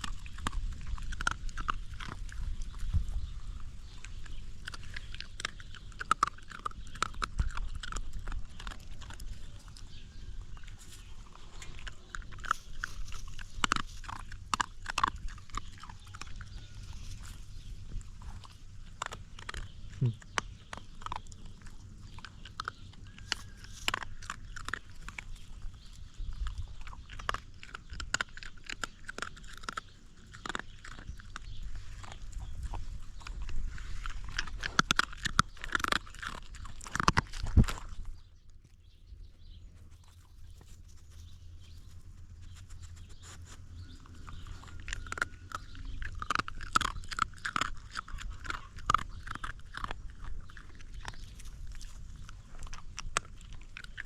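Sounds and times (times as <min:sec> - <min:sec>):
dog crunching food: 0:00.0 - 0:54.0.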